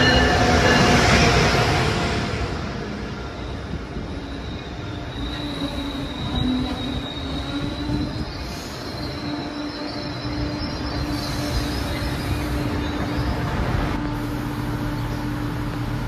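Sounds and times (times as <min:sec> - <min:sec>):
train wheel squeal: 0:00.0 - 0:02.2, 0:03.0 - 0:15.8
train wheels rumbling: 0:00.0 - 0:16.0.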